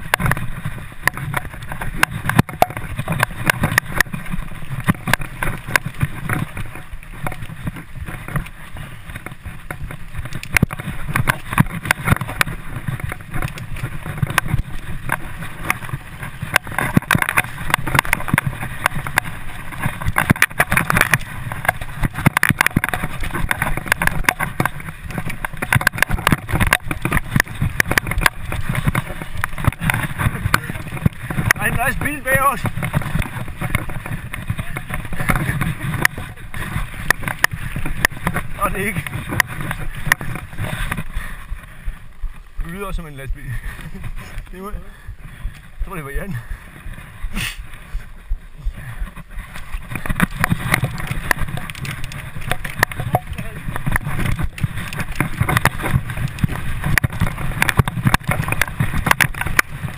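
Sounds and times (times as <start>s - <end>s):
bike rattling and knocking: 0.0s - 59.9s
bike tyre rolling noise: 0.0s - 59.9s.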